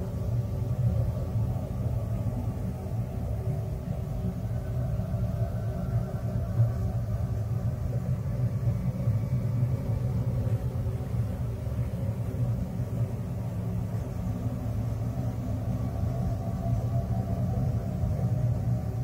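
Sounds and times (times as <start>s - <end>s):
deep rumbling drone hum: 0.0s - 19.0s.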